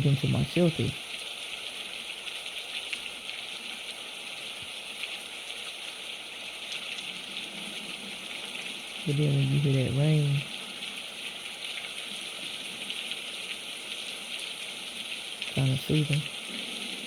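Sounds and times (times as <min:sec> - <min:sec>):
heavy rain splattering: 0:00.0 - 0:17.0.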